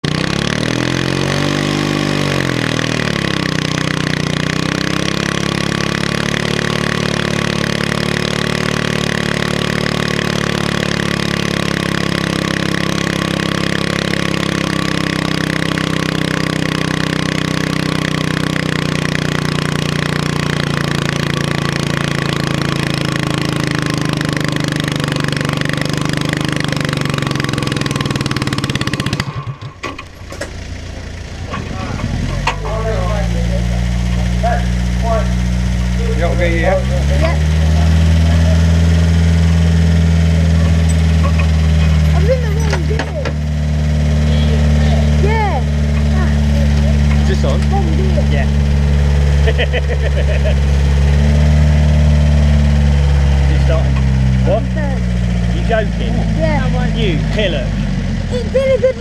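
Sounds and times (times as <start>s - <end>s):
tractor engine at full throttle: 0.0s - 59.0s.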